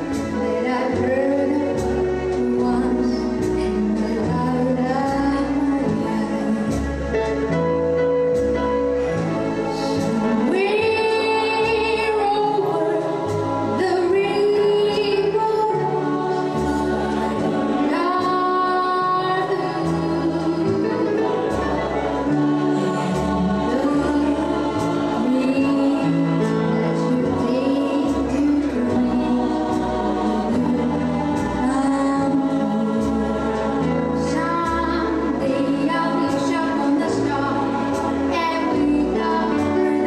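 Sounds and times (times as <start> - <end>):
bass line: 0.0 - 40.0
song with sung vocals: 0.0 - 40.0.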